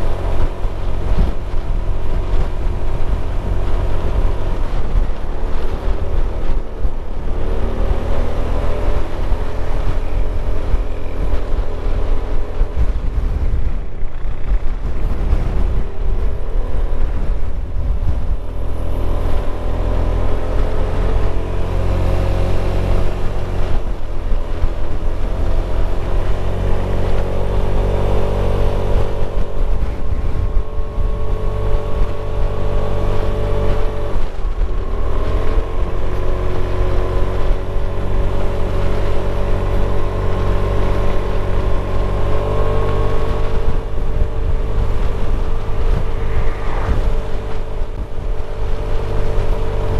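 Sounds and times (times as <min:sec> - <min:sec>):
motorcycle engine running: 0:00.0 - 0:49.9
wind rumble on microphone: 0:00.0 - 0:49.9.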